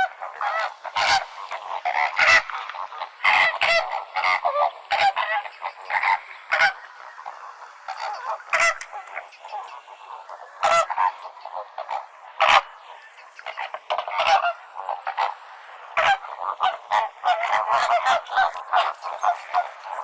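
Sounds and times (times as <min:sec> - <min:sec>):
flamingos honking: 0:00.0 - 0:20.0.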